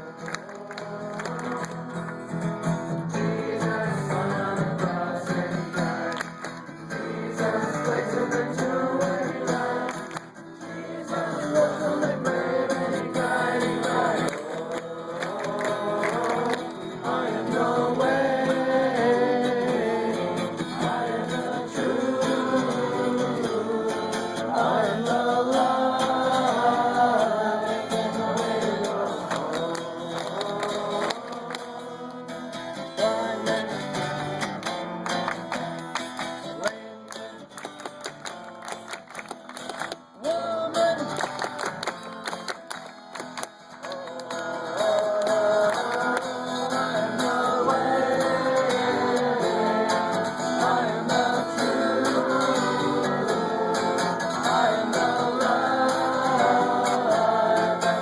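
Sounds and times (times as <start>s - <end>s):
group singing: 0.0s - 37.5s, 43.6s - 58.0s
strummed acoustic guitar: 0.0s - 58.0s.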